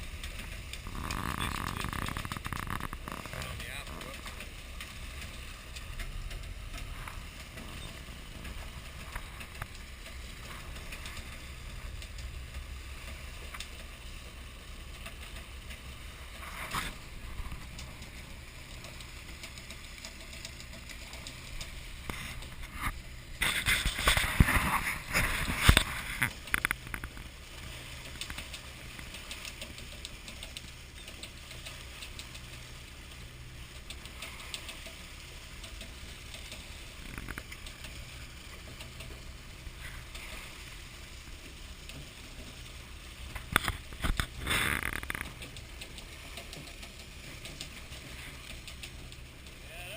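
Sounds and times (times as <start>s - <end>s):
boat engine rumbling: 0.0s - 49.9s.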